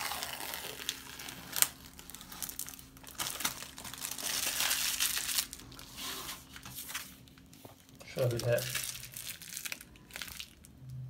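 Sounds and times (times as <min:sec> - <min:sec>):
tape being peeled off: 0:00.0 - 0:10.5.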